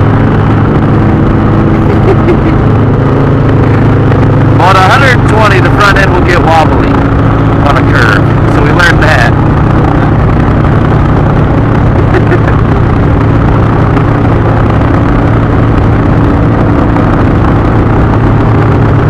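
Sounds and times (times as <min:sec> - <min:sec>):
motorcycle engine cruising: 0:00.0 - 0:19.0
road noise: 0:00.0 - 0:19.0
wind noise: 0:00.0 - 0:19.0.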